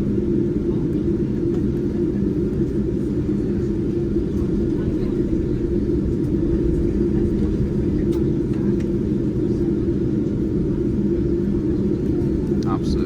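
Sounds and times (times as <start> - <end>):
airliner cabin low rumble: 0.0 - 13.0.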